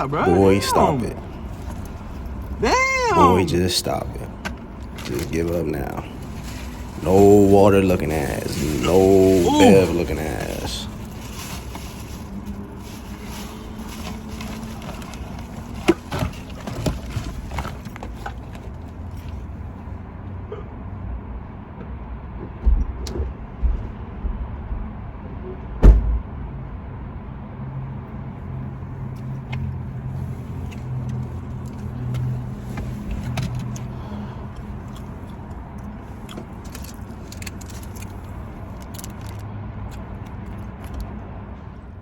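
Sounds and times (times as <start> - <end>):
car interior rumble: 0.0 - 20.8, 28.4 - 42.0.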